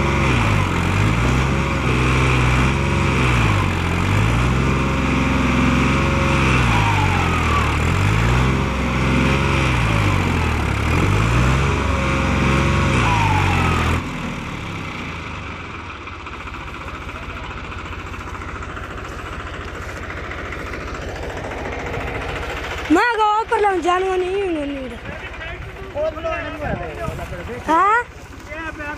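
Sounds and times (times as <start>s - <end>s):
tractor diesel engine revving: 0.0s - 28.9s.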